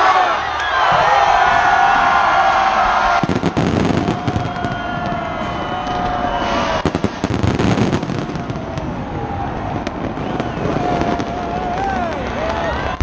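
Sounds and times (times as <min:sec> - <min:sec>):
fireworks crackling and banging: 0:00.8 - 0:13.0.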